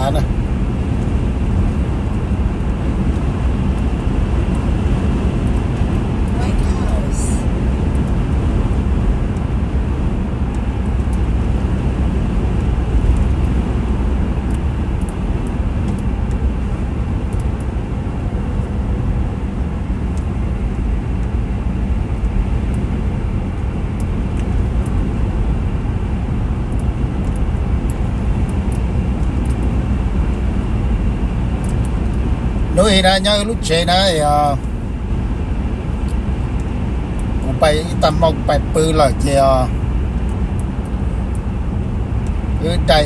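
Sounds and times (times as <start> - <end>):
car cabin road and engine rumble: 0.0 - 43.0.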